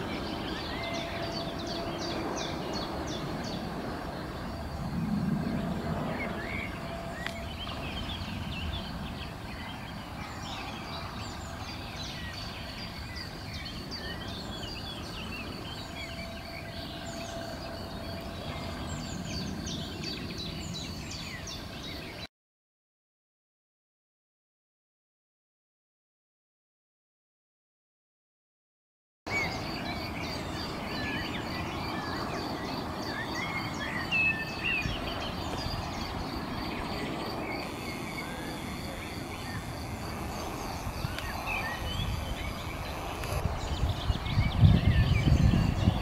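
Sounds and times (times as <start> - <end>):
outdoor background hiss: 0.0 - 22.3, 29.3 - 46.0
small birds chirping: 0.0 - 22.3, 29.3 - 46.0.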